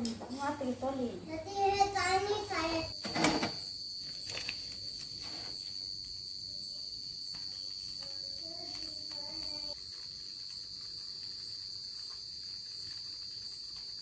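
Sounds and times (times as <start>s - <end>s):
cricket trilling: 0.5s - 14.0s.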